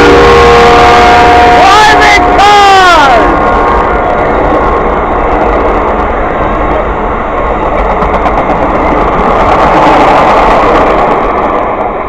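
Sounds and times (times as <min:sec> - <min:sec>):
passenger train passing: 0:00.0 - 0:12.0.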